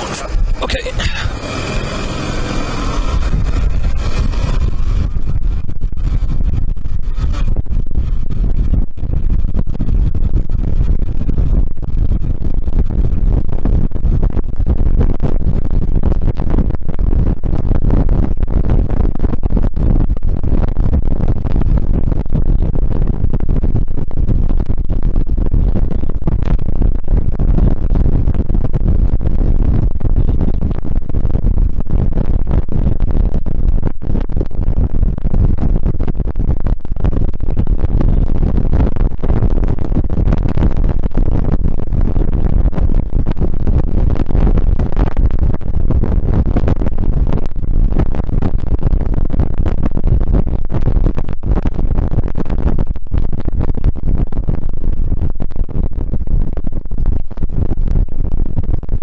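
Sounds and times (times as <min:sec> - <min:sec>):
motorcycle engine rumble: 0:00.0 - 0:54.2
wind rushing over microphone: 0:00.0 - 0:59.0.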